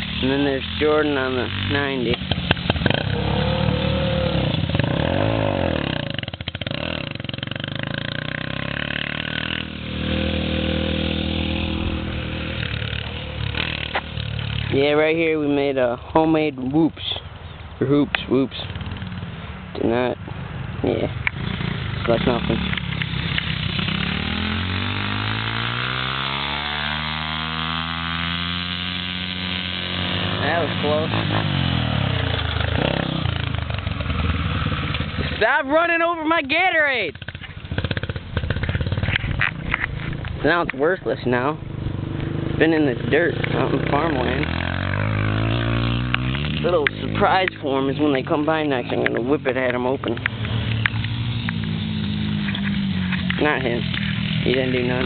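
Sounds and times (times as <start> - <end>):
dirt bike engine riding past: 0.0 - 15.3, 20.7 - 55.0.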